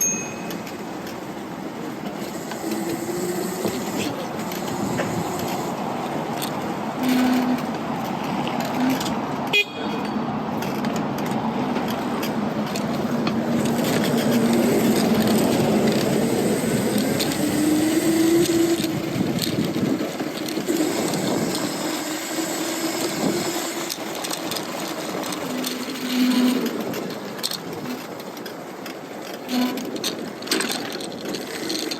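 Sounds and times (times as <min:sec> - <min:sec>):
road and wind noise: 0:00.0 - 0:31.9.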